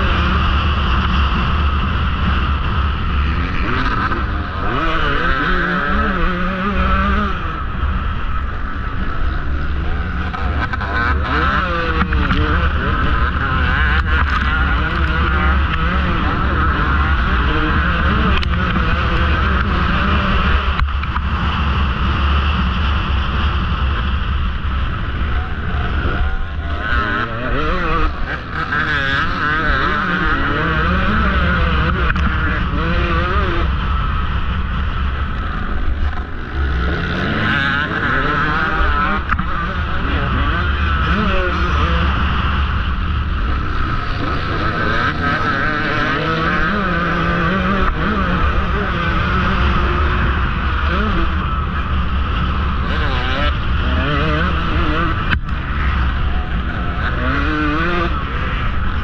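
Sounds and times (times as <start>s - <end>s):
dirt bike engine revving: 0.0s - 59.0s
wind rumble on microphone: 0.0s - 59.0s.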